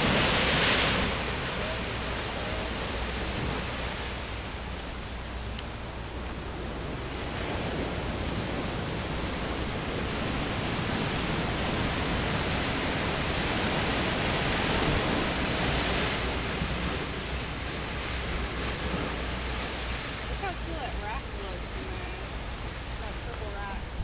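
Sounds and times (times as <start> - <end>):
surf surging into sea cave: 0.0 - 24.0.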